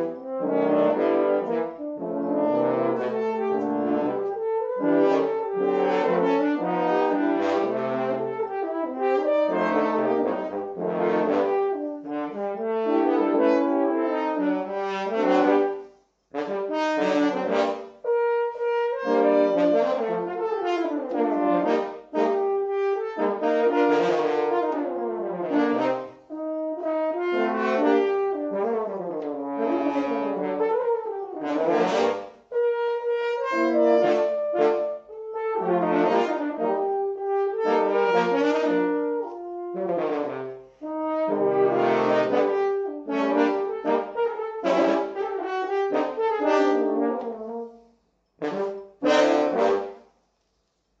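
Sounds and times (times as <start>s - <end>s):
french horns playing a tango: 0.0s - 50.2s.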